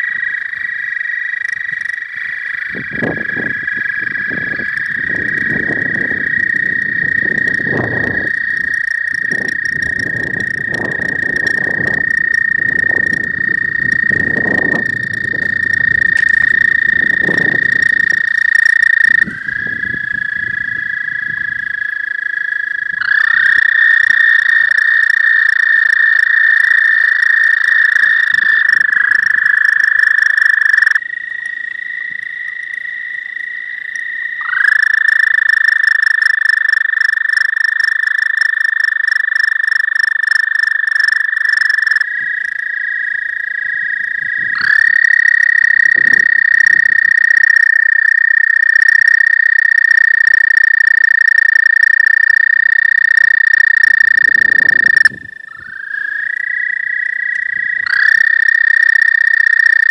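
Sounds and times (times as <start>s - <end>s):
faint toad trill: 0.0s - 59.9s
toads trilling: 0.0s - 59.9s.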